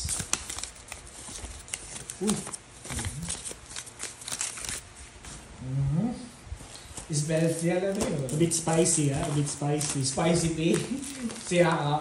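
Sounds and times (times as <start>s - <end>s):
trading cards and paper rustling: 0.0s - 5.4s, 6.6s - 12.0s.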